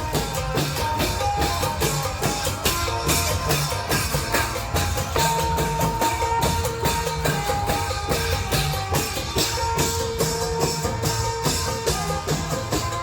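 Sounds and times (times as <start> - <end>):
long-drum ensemble playing: 0.0 - 13.0.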